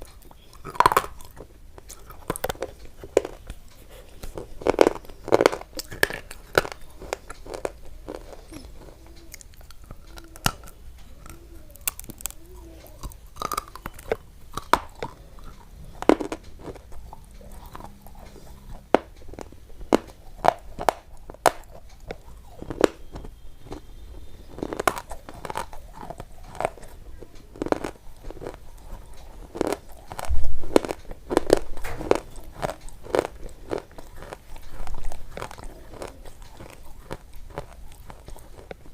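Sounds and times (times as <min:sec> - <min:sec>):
person chewing crisp food: 0:00.0 - 0:38.9.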